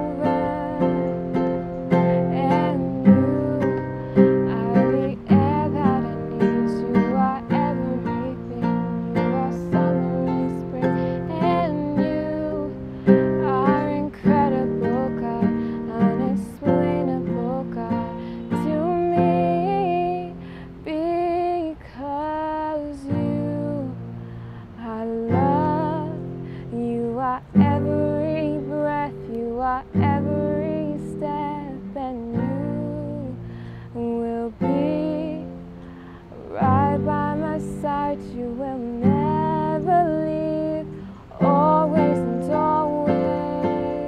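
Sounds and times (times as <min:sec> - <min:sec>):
strummed classical guitar: 0:00.0 - 0:44.0
woman singing slow song: 0:00.0 - 0:44.0.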